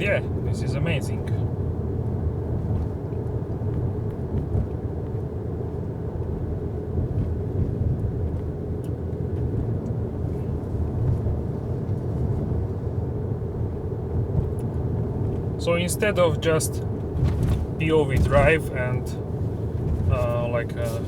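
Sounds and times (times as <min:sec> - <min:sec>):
car interior road rumble: 0:00.0 - 0:21.0.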